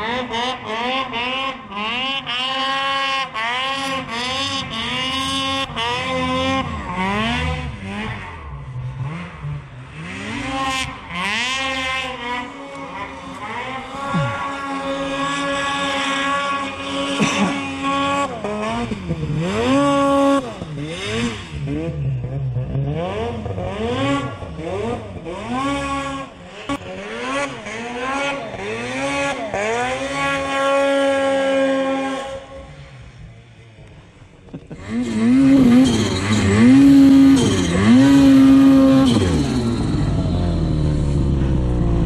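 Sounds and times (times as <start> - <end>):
snowmobile engine revving: 0.0 - 42.0
track churning through snow: 0.0 - 42.0.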